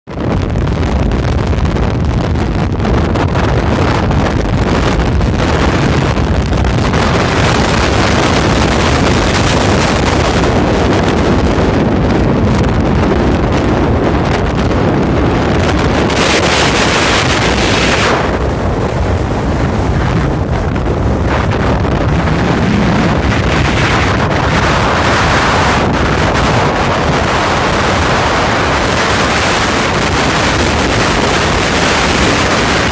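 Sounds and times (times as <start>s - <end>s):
wind buffeting microphone: 0.1s - 32.9s.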